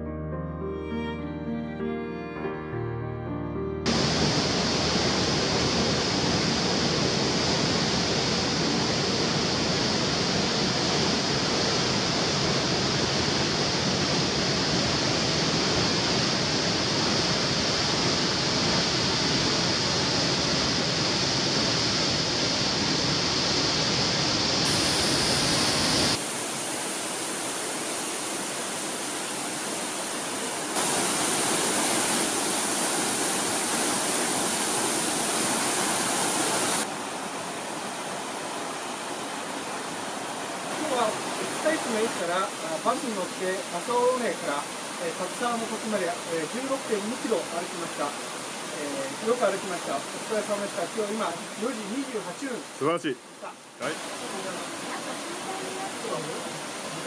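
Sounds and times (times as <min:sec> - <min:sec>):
waterfall rushing: 0:03.9 - 0:57.0.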